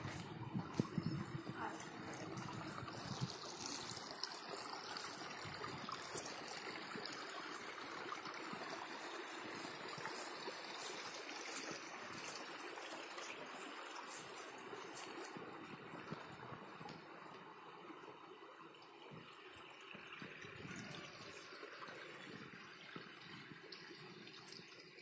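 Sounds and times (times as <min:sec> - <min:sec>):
water trickling into a pond: 0:00.0 - 0:25.0.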